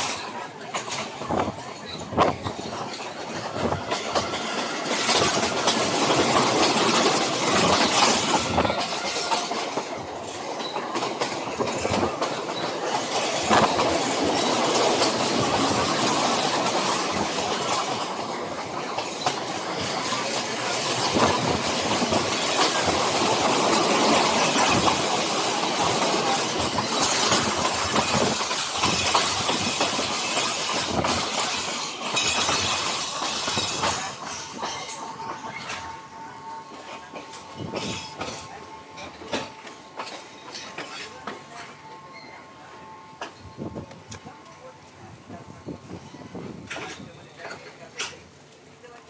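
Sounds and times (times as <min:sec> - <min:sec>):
train rolling rush: 0:00.0 - 0:49.0
wheels clattering on rails: 0:00.0 - 0:49.0.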